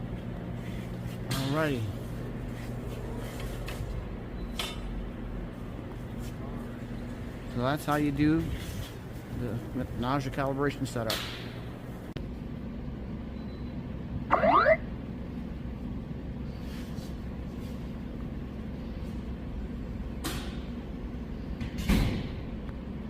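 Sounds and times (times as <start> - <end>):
low workshop hum: 0.0 - 23.0.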